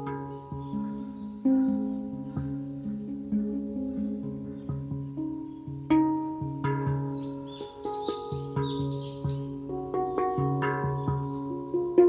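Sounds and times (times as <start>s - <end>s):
handpan melody: 0.0s - 12.0s.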